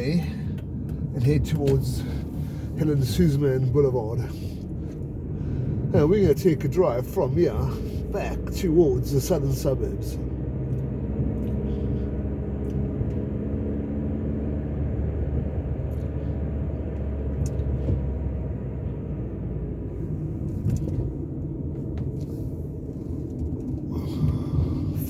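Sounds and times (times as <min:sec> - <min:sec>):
car engine running: 0:00.0 - 0:25.0
road rumble: 0:00.0 - 0:25.0.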